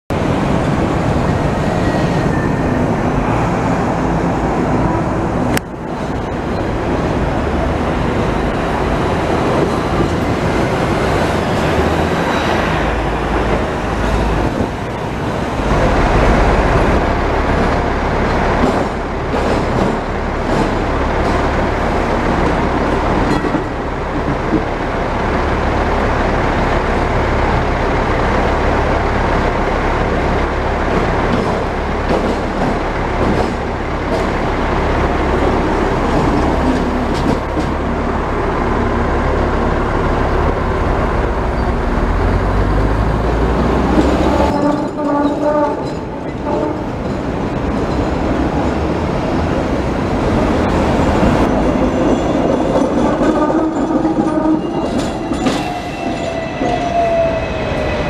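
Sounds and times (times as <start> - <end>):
engines and road noise: 0.1 - 58.0.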